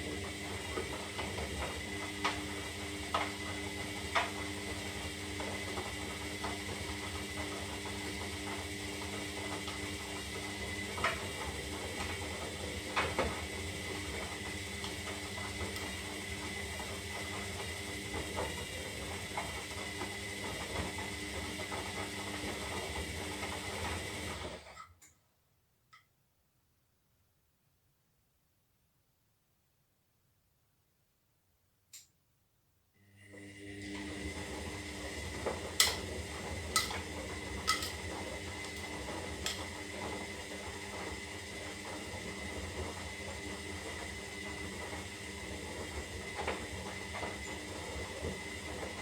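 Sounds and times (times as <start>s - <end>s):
washing machine humming: 0.0s - 24.8s, 33.0s - 49.0s.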